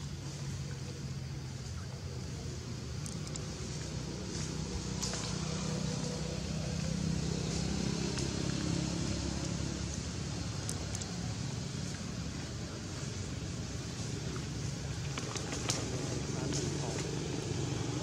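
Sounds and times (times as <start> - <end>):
distant engine humming: 0.0 - 18.0.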